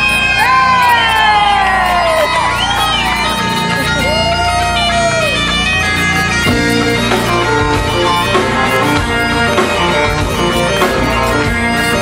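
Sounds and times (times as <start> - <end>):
bagpipes playing a tune: 0.0 - 12.0
rock band with drum kit: 0.0 - 12.0.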